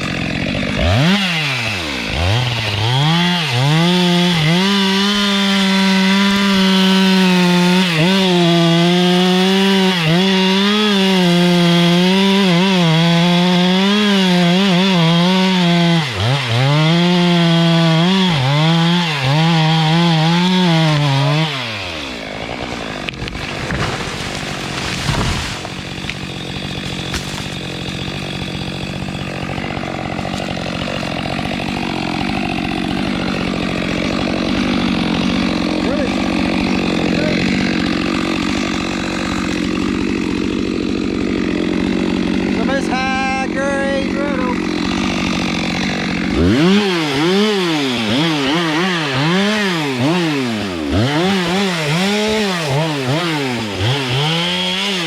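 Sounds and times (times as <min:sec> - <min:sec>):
chainsaw cutting at full throttle: 0:00.0 - 0:55.0.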